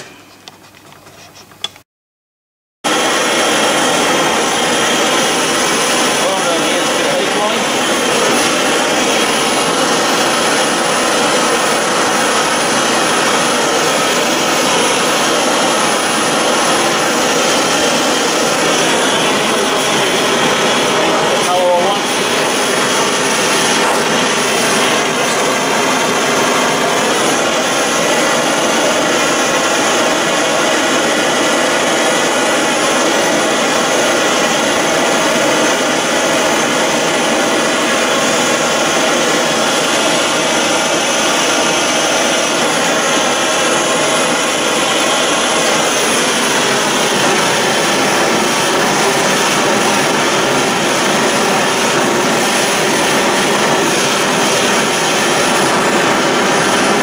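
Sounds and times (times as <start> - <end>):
gas blowtorch rushing: 2.9 - 57.0.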